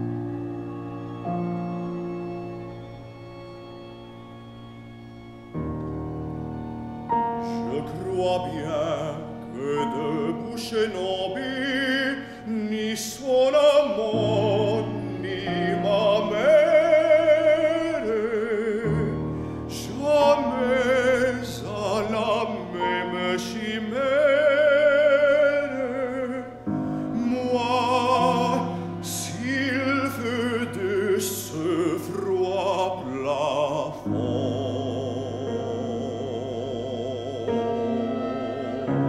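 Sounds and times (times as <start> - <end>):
strings and piano ensemble: 0.0 - 39.0
baritone singing: 7.4 - 39.0.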